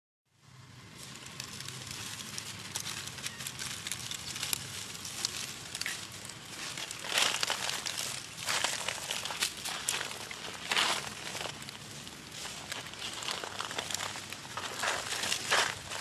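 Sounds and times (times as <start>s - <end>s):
dry leaves crackling under feet: 0.8s - 16.0s.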